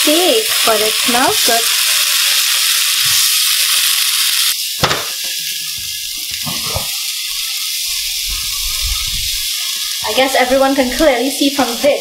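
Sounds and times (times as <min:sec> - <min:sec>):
watermelon sizzling in frying pan: 0:00.0 - 0:12.0.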